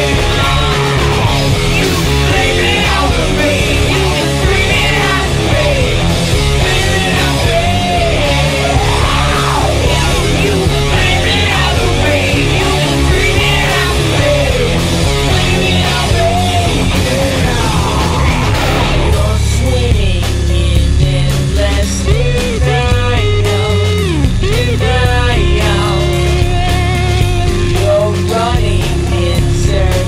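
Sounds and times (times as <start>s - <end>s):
heavy bass: 0.0s - 30.0s
loud rock music: 0.0s - 30.0s
person singing: 0.0s - 30.0s.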